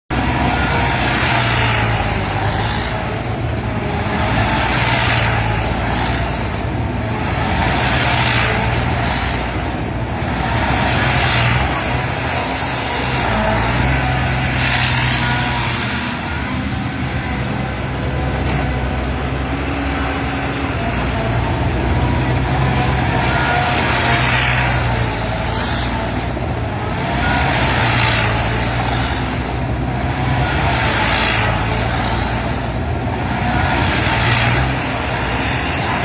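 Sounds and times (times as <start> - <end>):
harvester engine humming: 0.1 - 36.0
rushing mechanical noise: 0.1 - 36.0.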